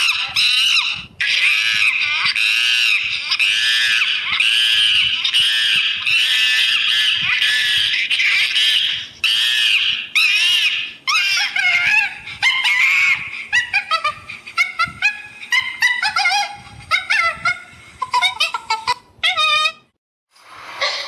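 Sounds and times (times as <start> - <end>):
animal harsh rasping cries: 0.0 - 17.3.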